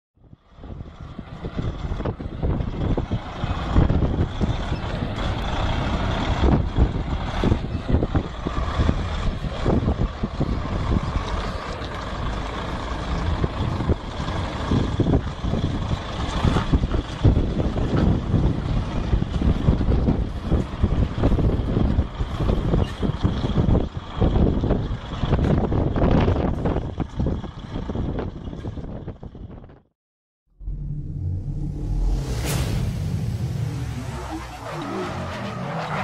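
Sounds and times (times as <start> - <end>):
lorry diesel engine running: 0.2 - 29.6, 30.5 - 36.0.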